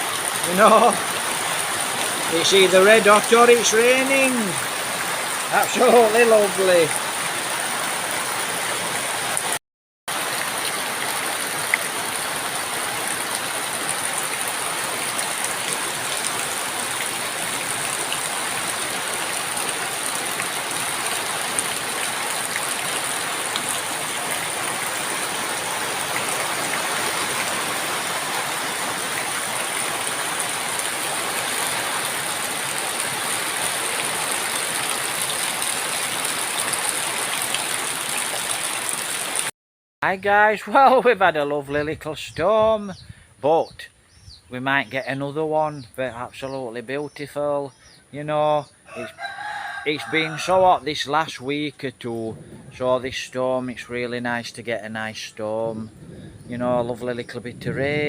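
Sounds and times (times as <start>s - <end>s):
rain falling: 0.0s - 39.5s, 48.9s - 58.0s.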